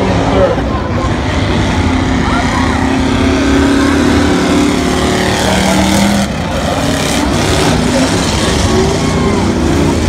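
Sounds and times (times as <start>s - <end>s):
car engines running loud: 0.0s - 10.0s.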